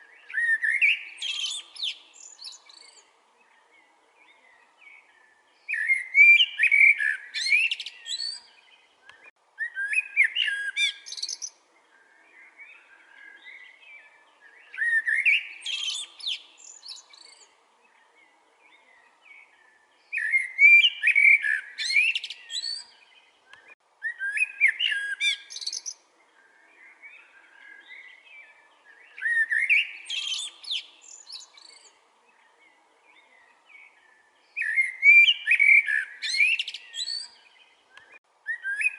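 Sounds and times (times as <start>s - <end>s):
blackbird singing: 0.0s - 38.9s
faint calls of other birds: 0.0s - 38.9s.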